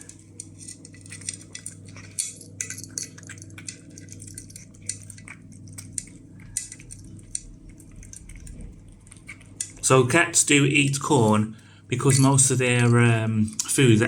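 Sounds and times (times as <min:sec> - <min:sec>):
cat chewing from a dish: 0:00.0 - 0:13.9
steady low hum: 0:00.0 - 0:14.0.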